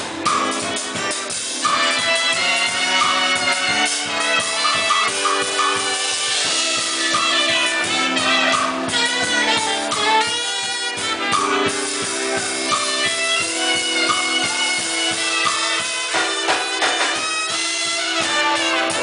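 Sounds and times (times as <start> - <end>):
drum kit steady beat: 0.0 - 19.0
horn section holding notes: 0.0 - 19.0.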